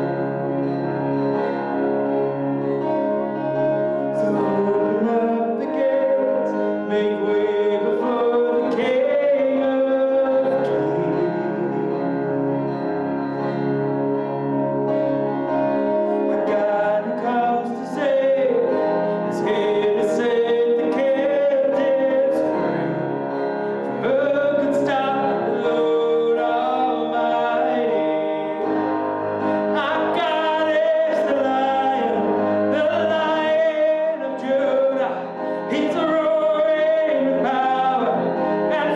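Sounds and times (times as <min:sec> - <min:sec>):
live band playing: 0:00.0 - 0:38.9
person singing: 0:00.0 - 0:38.9.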